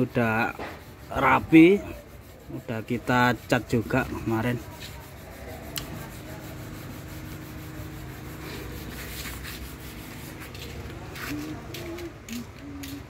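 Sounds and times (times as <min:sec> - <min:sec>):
scratchy strokes: 0:00.0 - 0:12.1
rubbing and scraping: 0:00.0 - 0:12.4.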